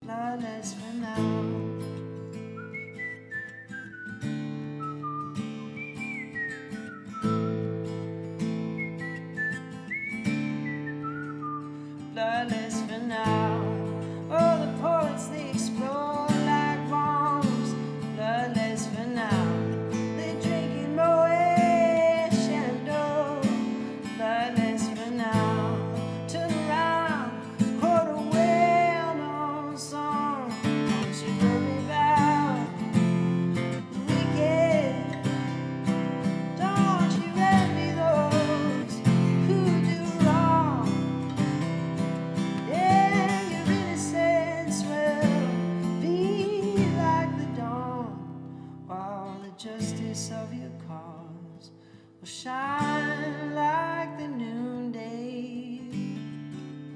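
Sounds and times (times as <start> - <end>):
strummed acoustic guitar chords: 0.0 - 56.9.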